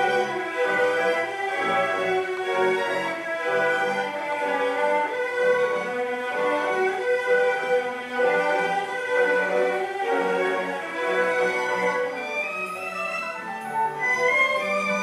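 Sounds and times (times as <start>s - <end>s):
string music from television speaker: 0.0s - 15.0s.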